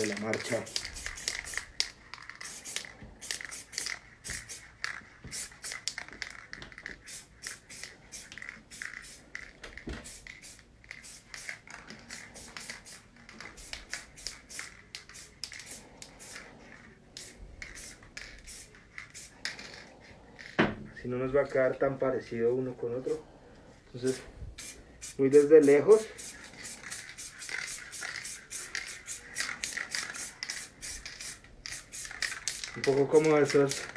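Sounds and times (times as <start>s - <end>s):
spray paint can bursts: 0.0s - 9.2s, 10.0s - 16.5s, 17.2s - 19.6s, 24.1s - 33.9s.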